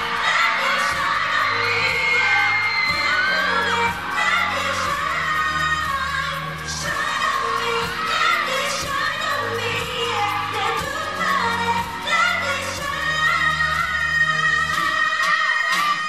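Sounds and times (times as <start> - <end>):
pop backing track with bass: 0.0 - 16.0
women singing into microphones: 0.0 - 16.0.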